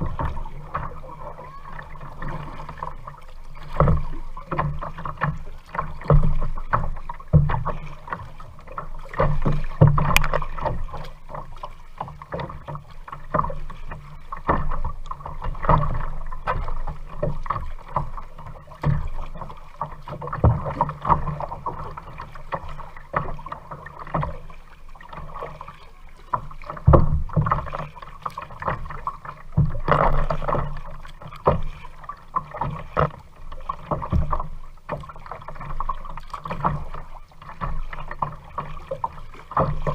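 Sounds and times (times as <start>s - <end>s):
water splashing with paddle strokes: 0.0s - 39.9s.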